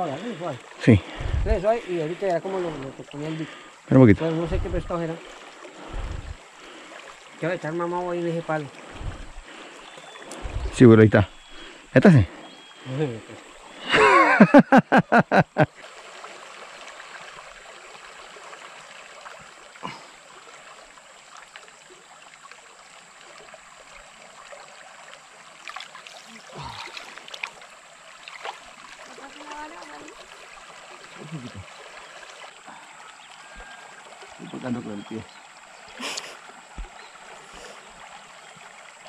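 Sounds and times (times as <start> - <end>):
river water rushing: 0.0 - 14.5, 15.7 - 39.0.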